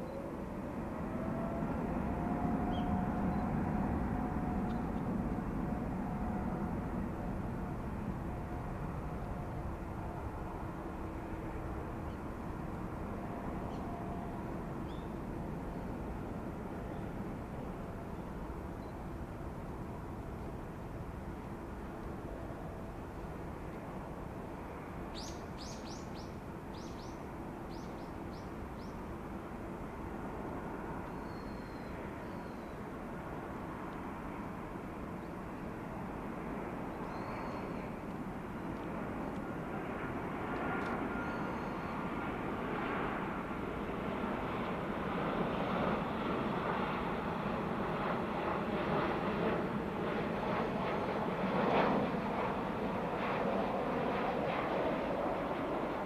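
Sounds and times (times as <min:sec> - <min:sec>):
jet engine noise: 0:00.0 - 0:56.0.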